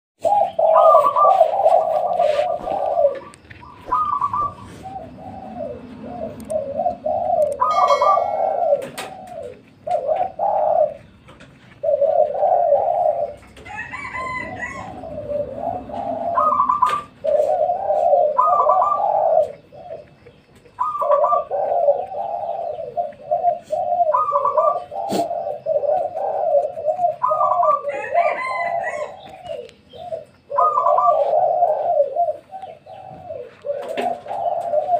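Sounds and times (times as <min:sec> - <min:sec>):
doves cooing: 0:00.2 - 0:34.9.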